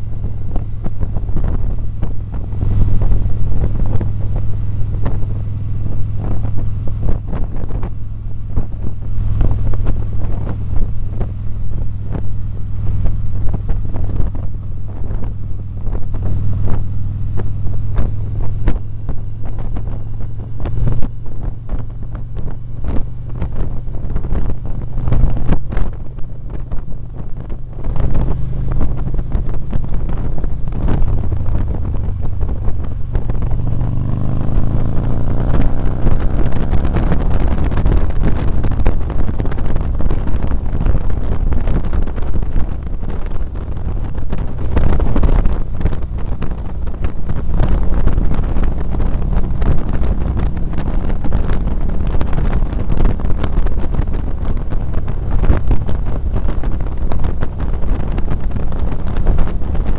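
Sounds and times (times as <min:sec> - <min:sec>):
motorcycle engine drone: 0:00.0 - 0:59.9
wind buffeting microphone: 0:00.0 - 0:59.9.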